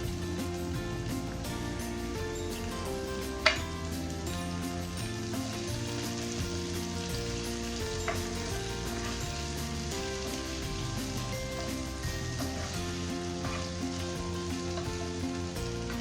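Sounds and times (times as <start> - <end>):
noodles sizzling in oil: 0.0 - 16.0.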